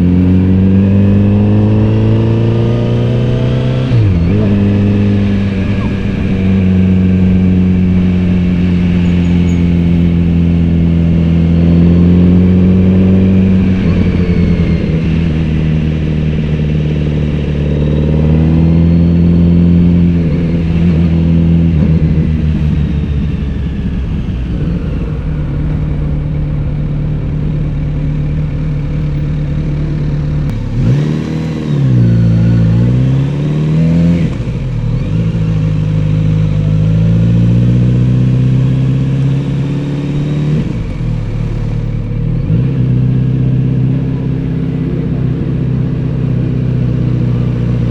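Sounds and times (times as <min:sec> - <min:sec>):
motorcycle engine and exhaust cruising: 0:00.0 - 0:47.9.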